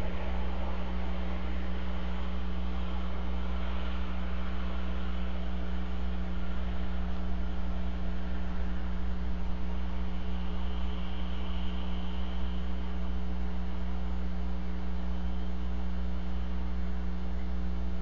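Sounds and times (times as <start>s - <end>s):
constant hiss: 0.0s - 18.0s
electrical mains hum: 0.0s - 18.0s.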